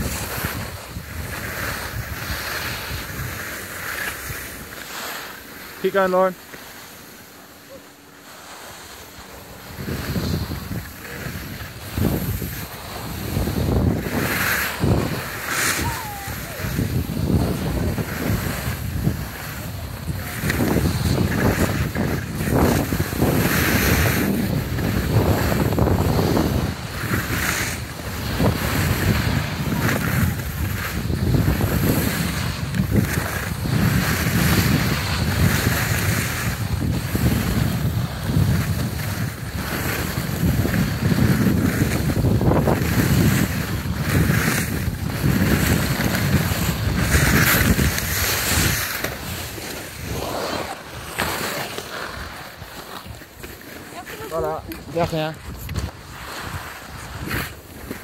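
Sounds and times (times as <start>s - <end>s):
wind buffeting microphone: 0.0s - 4.7s, 9.4s - 51.4s
skis hissing on packed snow: 0.0s - 58.0s.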